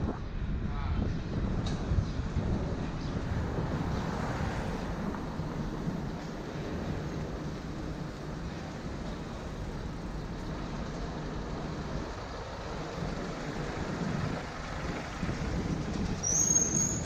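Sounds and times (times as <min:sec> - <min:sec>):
street traffic: 0:00.0 - 0:17.0
wind rumble on microphone: 0:00.0 - 0:17.0.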